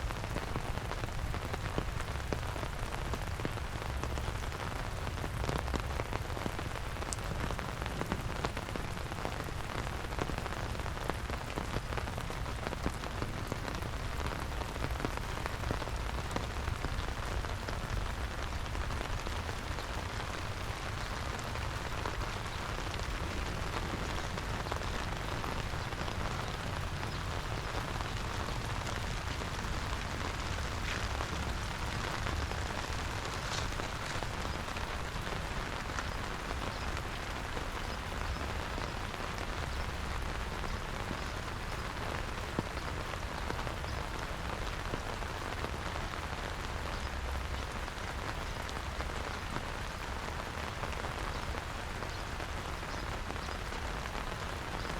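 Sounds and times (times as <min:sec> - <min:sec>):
rain falling on wet ground: 0:00.0 - 0:54.9.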